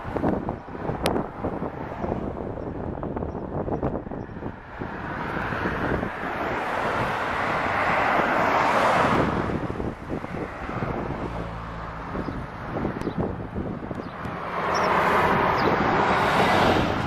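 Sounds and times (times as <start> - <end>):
car road noise: 0.0 - 17.0
wind on microphone: 0.0 - 17.0.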